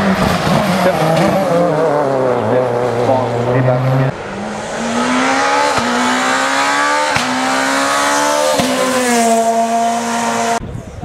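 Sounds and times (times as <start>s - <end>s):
rally car engine accelerating: 0.0s - 10.6s.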